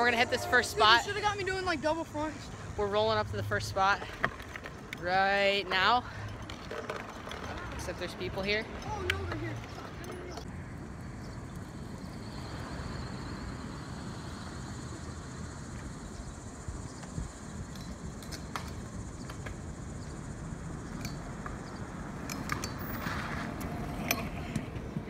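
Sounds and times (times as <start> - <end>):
scooters clacking on ground: 0.0 - 12.7, 15.6 - 25.0
scooter wheels rolling on asphalt: 0.0 - 25.0.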